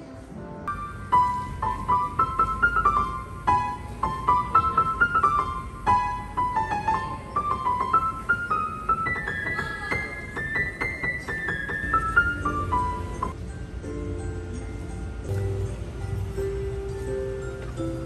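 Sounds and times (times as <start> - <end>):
piano melody: 0.0 - 18.0.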